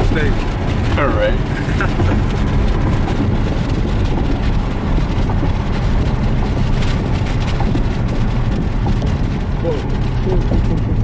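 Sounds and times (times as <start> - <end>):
car engine rumbling: 0.0 - 11.0
road noise: 0.0 - 11.0.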